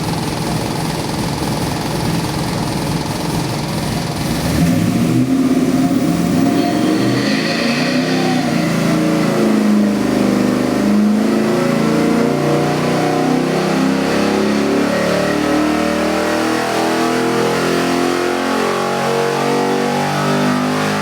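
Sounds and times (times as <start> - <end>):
engine running loudly: 1.0 - 21.0.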